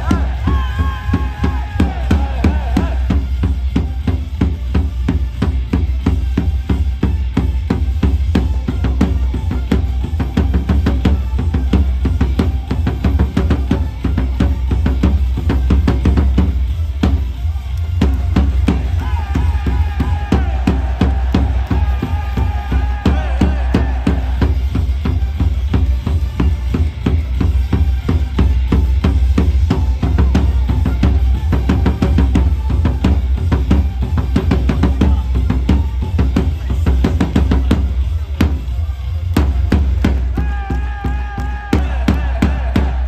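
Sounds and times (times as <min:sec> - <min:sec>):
cheer music with drumbeat and bass: 0:00.0 - 0:43.0.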